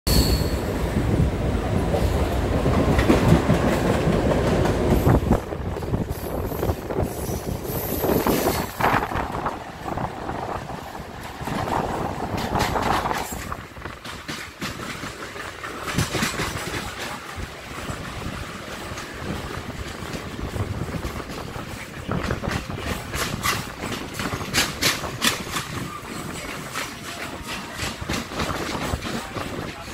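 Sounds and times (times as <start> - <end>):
train wheels rumbling on rail: 0.1 - 29.9
wheels clicking over rail joints: 1.9 - 29.9.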